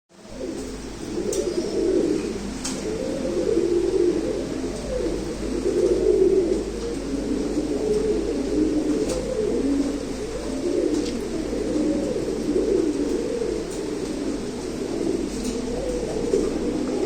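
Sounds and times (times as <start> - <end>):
pigeons cooing: 0.1 - 17.0.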